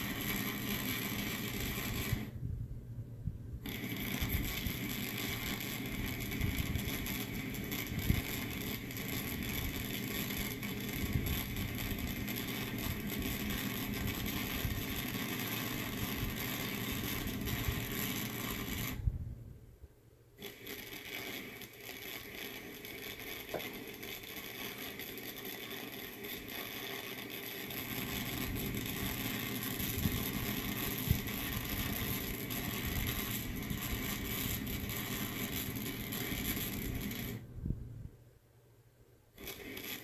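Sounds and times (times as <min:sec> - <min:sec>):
welding crackling hiss: 0:00.0 - 0:02.3, 0:03.6 - 0:19.0, 0:20.4 - 0:37.4, 0:39.4 - 0:40.0.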